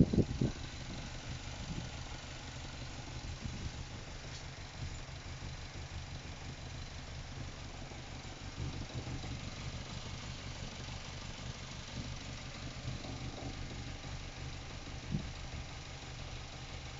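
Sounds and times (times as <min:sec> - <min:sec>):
car engine idling roughly: 0:00.0 - 0:16.9
engine knock: 0:00.0 - 0:16.9.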